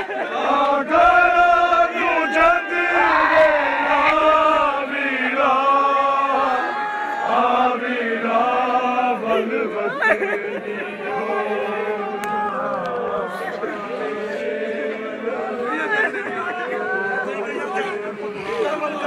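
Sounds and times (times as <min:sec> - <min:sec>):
men chanting a mourning lament: 0:00.0 - 0:19.0.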